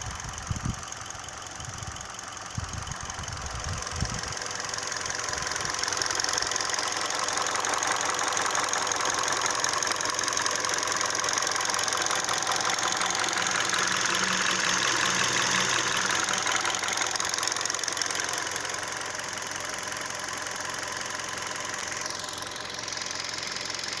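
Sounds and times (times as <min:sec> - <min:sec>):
car engine running: 0:00.0 - 0:24.0
fast steady engine knocking: 0:00.0 - 0:24.0.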